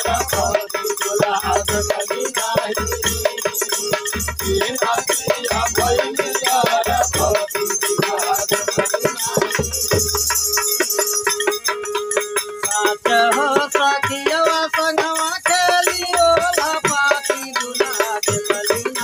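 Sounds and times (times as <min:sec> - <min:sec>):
jingling clapper shaking: 0:00.0 - 0:19.0.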